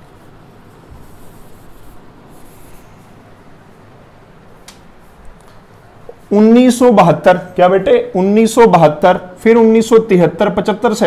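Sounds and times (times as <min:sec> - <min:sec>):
marker and cloth on whiteboard: 0:00.0 - 0:11.0.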